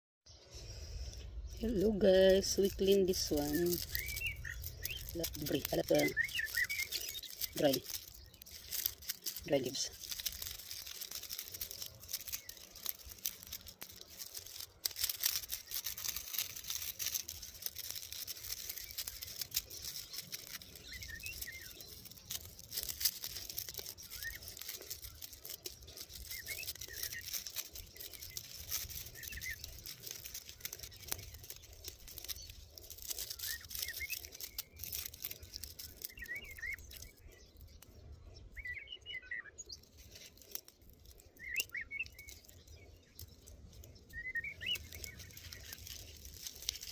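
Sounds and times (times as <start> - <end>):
birds chirping faintly: 0.3 - 46.9
dry leaves and soil rustling: 0.3 - 46.9.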